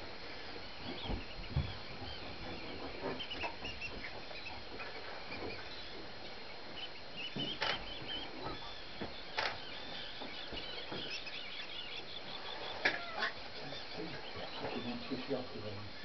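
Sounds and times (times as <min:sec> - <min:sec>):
birds chirping: 0:00.0 - 0:16.0
steady hiss: 0:00.0 - 0:16.0.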